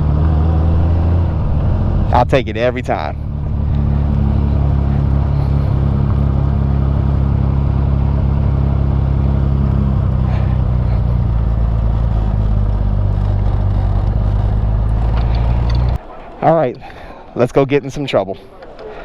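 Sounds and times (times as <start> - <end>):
motorcycle engine cruising: 0.0 - 17.2
road noise: 0.0 - 19.0.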